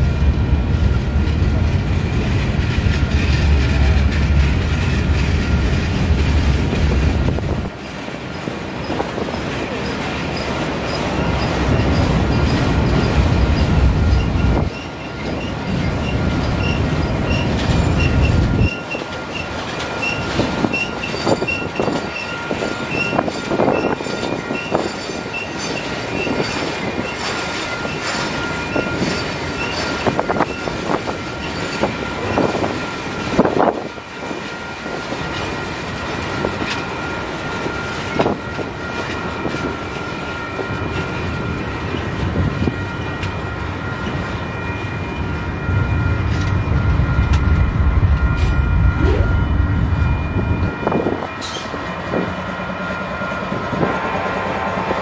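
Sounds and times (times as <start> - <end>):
train cars clattering: 0.0 - 55.0
train wheels squealing: 2.0 - 4.0, 4.7 - 55.0.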